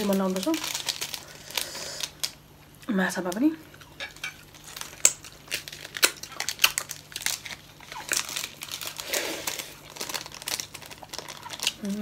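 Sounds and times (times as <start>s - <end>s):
plastic sachet crinkling: 0.0s - 2.4s, 3.2s - 12.0s.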